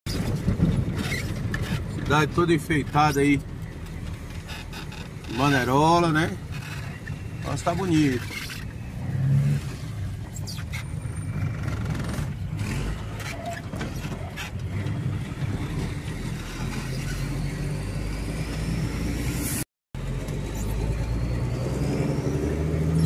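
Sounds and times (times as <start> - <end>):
road noise: 0.1 - 23.0.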